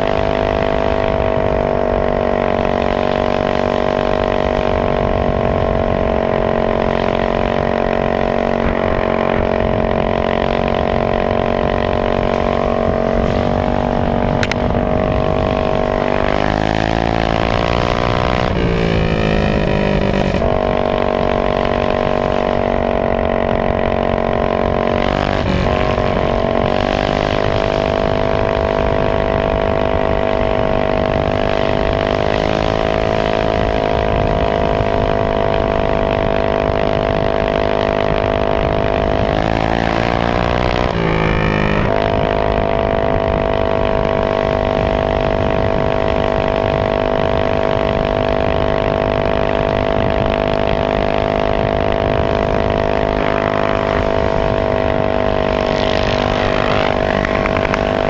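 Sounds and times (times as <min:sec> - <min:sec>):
minibike engine at high revs: 0:00.0 - 0:58.0.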